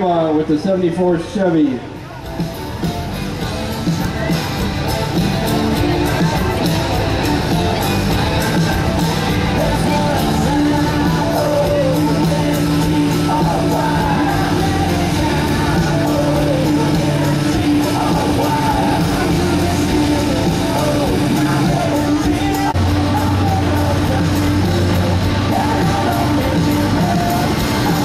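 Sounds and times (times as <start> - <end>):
rock music with singing: 0.0 - 28.0
low drone: 2.4 - 28.0.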